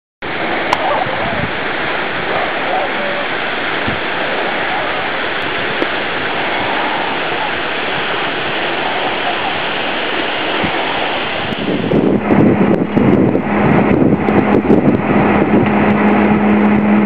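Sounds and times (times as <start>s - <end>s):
steady rushing noise: 0.2s - 17.0s.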